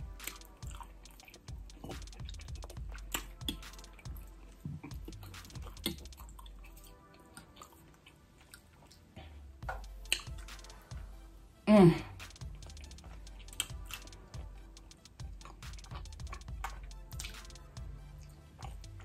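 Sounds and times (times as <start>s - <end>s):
chewing and wet mouth smacks: 0.3s - 10.6s, 12.4s - 14.2s, 15.2s - 19.0s.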